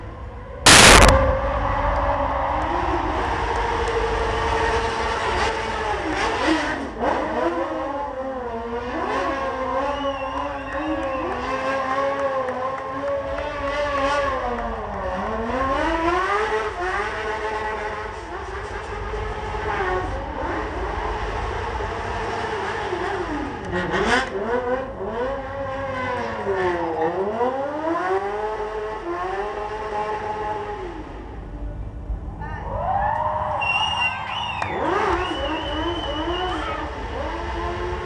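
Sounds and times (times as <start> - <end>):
motorcycle engines revving: 0.0 - 32.4, 34.0 - 38.0.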